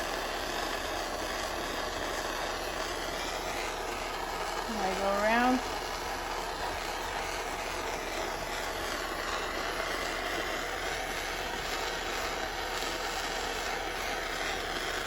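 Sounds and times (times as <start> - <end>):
soldering torch flame hissing: 0.0 - 15.0.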